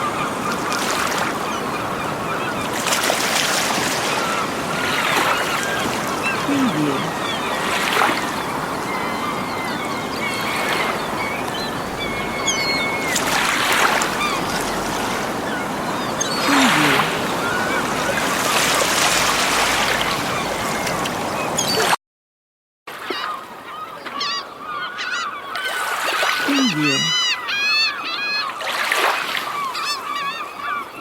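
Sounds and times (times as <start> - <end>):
seagulls calling: 0.0 - 21.9, 23.0 - 31.0
small waves washing onto beach: 0.0 - 22.0, 22.9 - 30.9.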